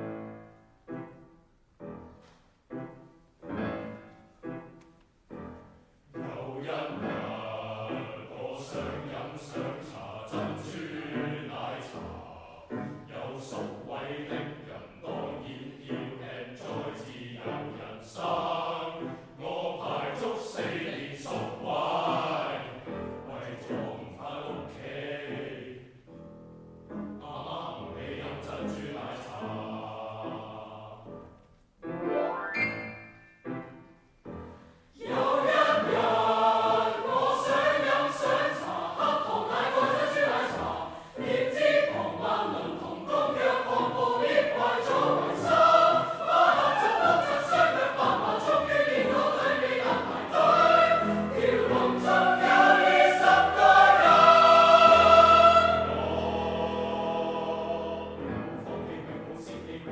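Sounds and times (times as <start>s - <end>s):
choir singing: 5.5s - 26.2s, 27.0s - 59.9s.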